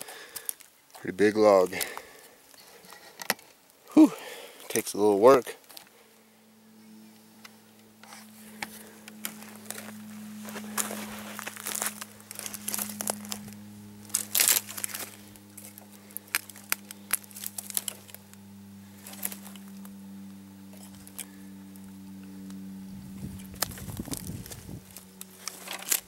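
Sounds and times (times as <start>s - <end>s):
dry grass crackling underfoot: 0.0s - 6.2s, 6.8s - 26.0s.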